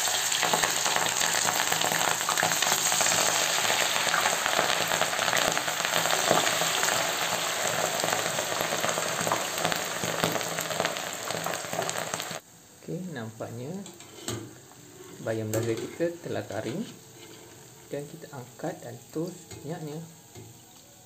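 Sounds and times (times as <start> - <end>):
leaves deep-frying in hot oil: 0.0 - 21.0.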